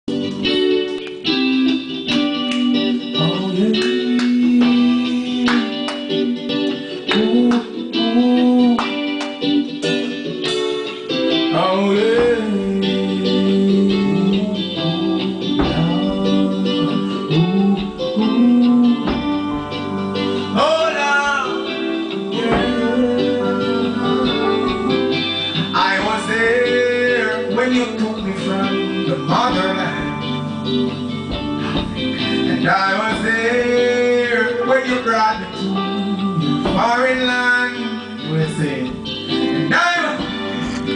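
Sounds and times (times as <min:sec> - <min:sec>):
reggae band playing: 0:00.1 - 0:40.9
man singing into a microphone: 0:02.4 - 0:09.2, 0:11.4 - 0:40.9.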